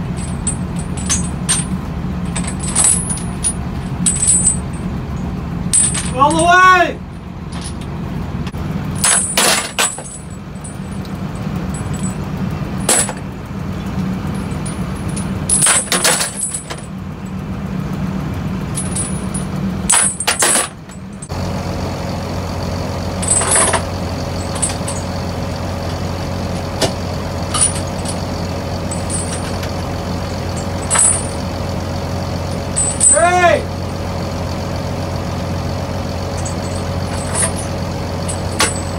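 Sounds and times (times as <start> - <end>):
steel chains clinking: 0.0 - 17.4, 18.6 - 38.9
low machine hum: 0.0 - 38.9.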